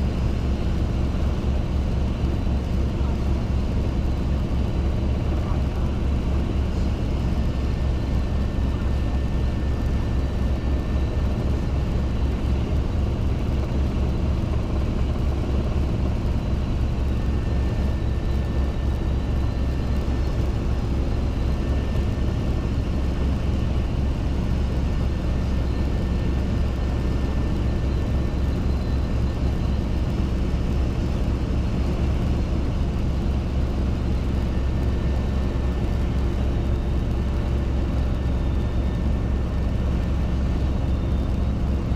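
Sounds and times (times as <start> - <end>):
helicopter engine and rotor noise: 0.0 - 41.9.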